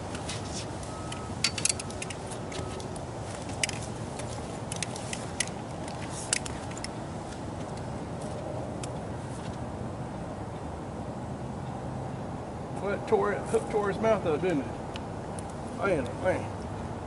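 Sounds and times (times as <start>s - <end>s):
low background rush: 0.0s - 17.0s.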